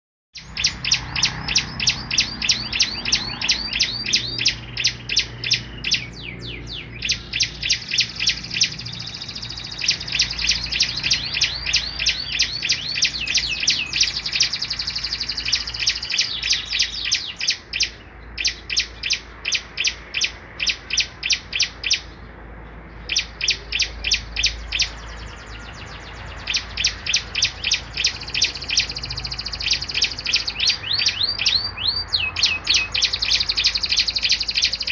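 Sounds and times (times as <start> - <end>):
songbirds chirping: 0.3 - 34.9.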